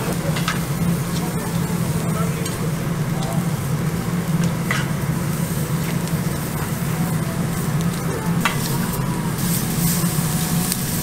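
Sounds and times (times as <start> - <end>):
food sizzling on grill: 0.0 - 11.0
low hum: 0.0 - 11.0.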